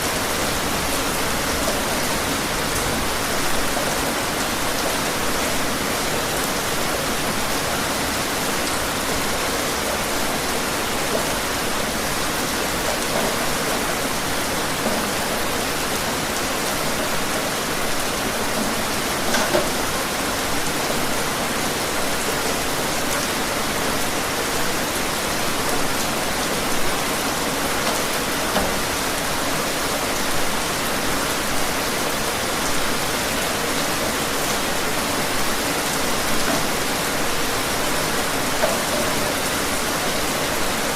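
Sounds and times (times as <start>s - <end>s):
rain drips: 0.0s - 40.9s
steady rain falling: 0.0s - 40.9s.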